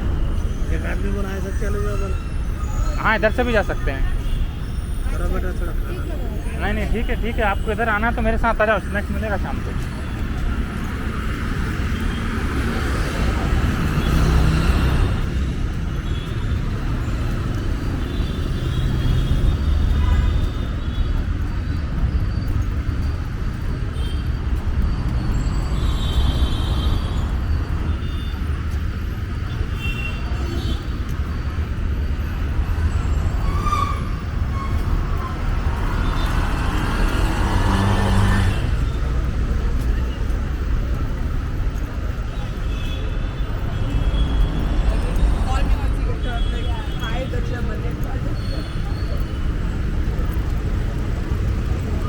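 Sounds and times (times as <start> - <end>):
passing vehicles rumbling: 0.0 - 52.0.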